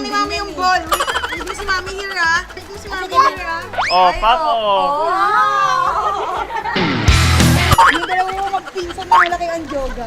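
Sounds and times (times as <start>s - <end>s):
pop music: 0.0s - 9.4s.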